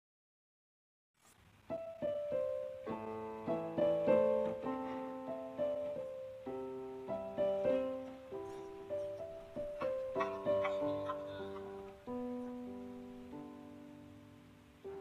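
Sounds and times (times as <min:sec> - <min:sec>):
slow keyboard melody: 0:01.7 - 0:15.0.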